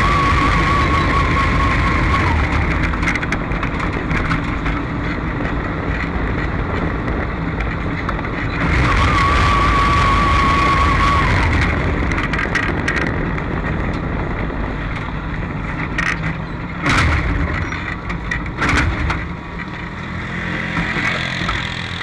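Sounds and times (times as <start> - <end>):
race car engine running unevenly: 0.0 - 22.0.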